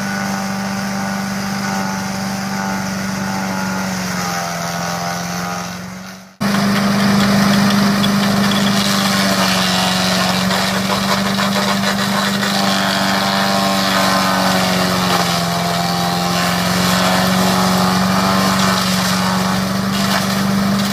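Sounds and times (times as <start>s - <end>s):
small gas engine running: 0.0s - 20.9s.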